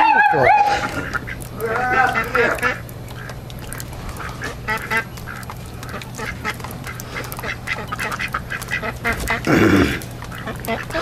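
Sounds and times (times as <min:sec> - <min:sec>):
ducks quacking: 0:00.0 - 0:11.0
steady low hum: 0:00.0 - 0:11.0.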